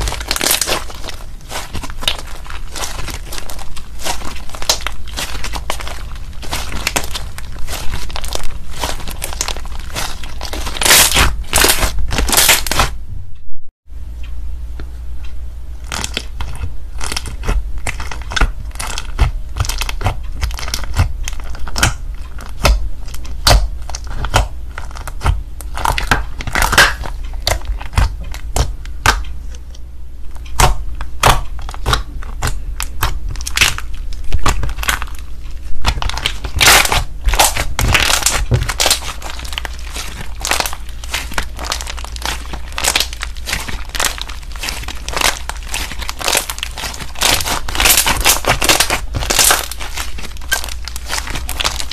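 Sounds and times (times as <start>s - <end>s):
sticky slime clicks and crackles: 0.0s - 12.9s, 15.8s - 51.9s.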